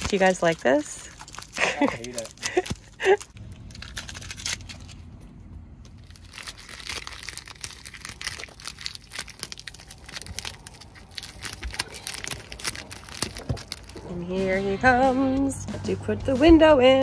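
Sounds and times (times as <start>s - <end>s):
tape peeling and crinkling: 0.0s - 14.2s.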